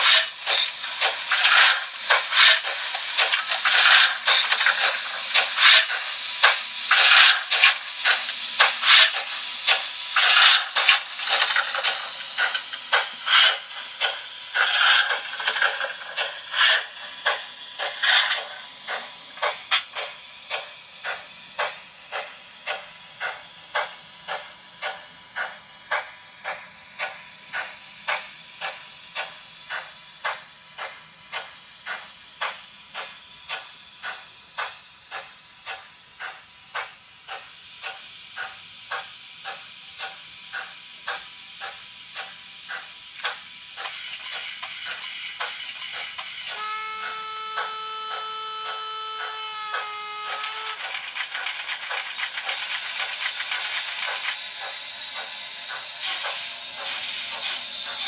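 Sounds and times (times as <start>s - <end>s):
low rumble of train on track: 0.0s - 58.0s
model steam locomotive chuffs: 0.0s - 58.0s.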